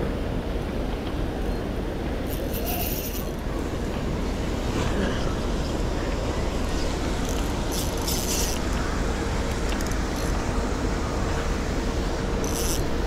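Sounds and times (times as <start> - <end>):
faint motor hum: 0.0 - 13.0
paddlewheel aerator churning: 0.3 - 13.0.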